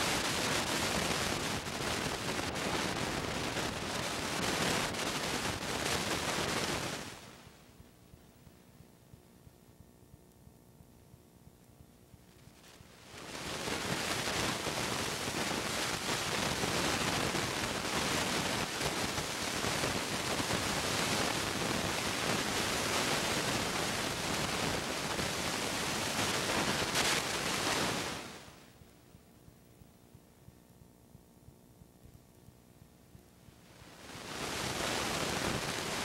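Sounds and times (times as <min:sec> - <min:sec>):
steady film hiss: 0:00.0 - 0:36.0.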